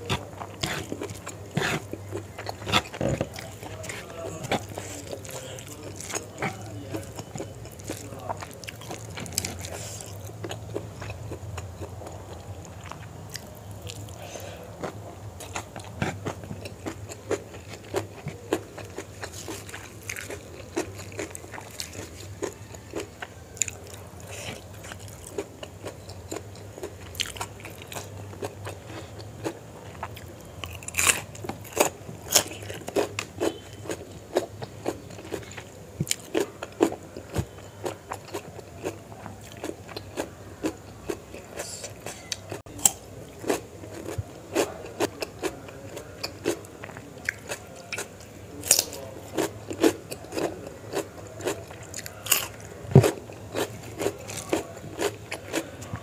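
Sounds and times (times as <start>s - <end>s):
close-up chewing and crunching: 0.0s - 56.0s.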